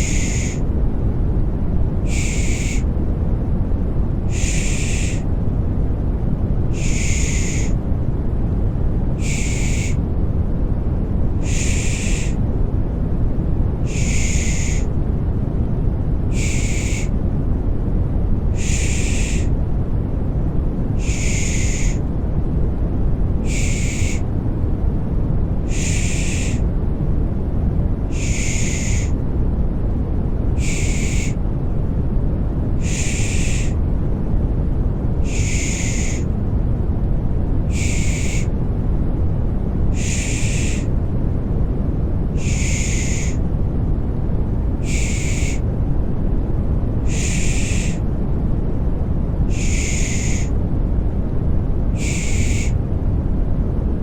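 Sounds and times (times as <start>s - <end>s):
deep white noise rumble: 0.0s - 54.0s.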